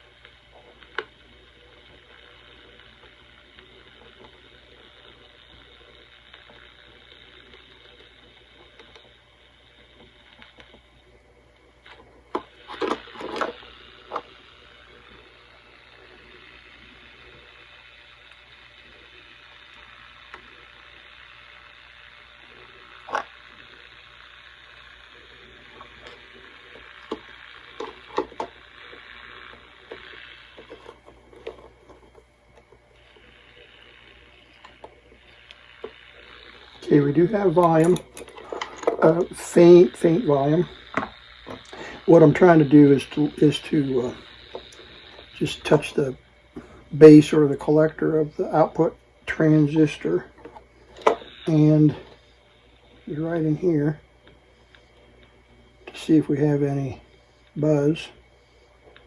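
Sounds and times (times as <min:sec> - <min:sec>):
low hum: 0:00.0 - 0:59.0
radio static hiss: 0:00.0 - 0:59.0.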